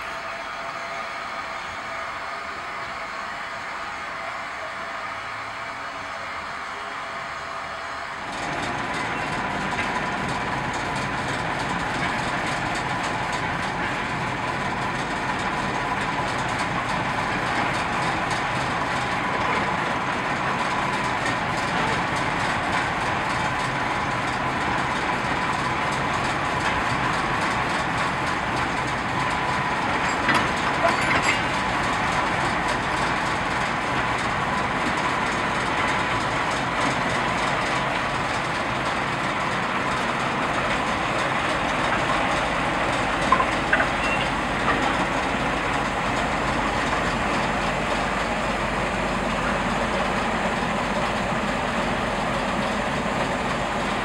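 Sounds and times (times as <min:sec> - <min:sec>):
diesel locomotive engine running: 0:00.0 - 0:54.0
train rolling on rails: 0:00.0 - 0:54.0.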